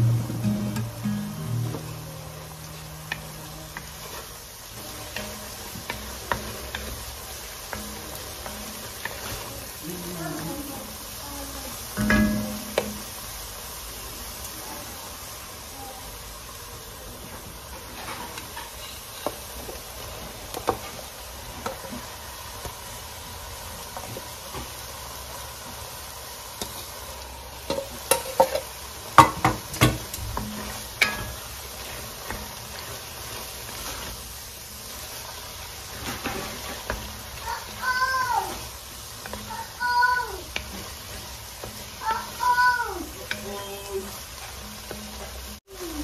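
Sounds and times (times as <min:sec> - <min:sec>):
food sizzling in a pot: 0:00.0 - 0:46.0.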